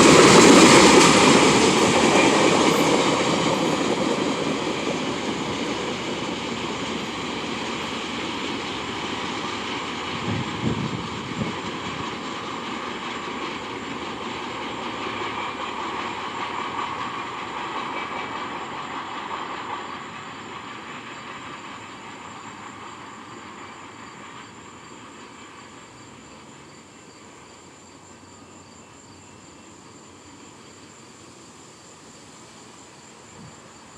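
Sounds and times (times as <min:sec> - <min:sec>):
freight train rumbling past: 0:00.0 - 0:33.9.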